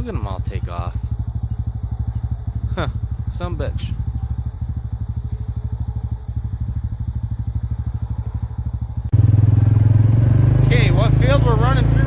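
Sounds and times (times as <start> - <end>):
small engine puttering: 0.5 - 12.0.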